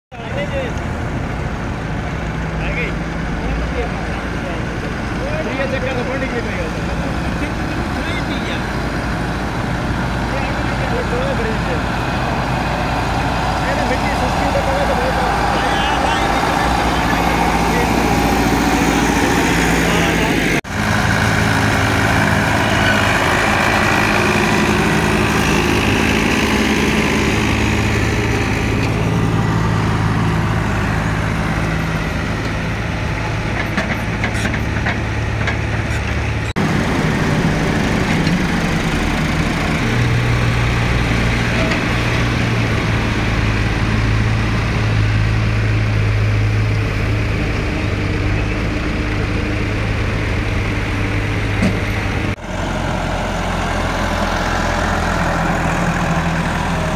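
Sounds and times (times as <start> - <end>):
tractor diesel engines running: 0.1 - 56.9.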